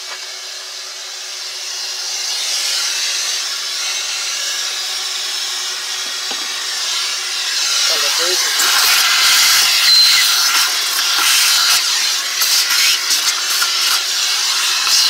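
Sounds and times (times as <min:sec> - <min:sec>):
shop vac running: 0:00.0 - 0:15.0.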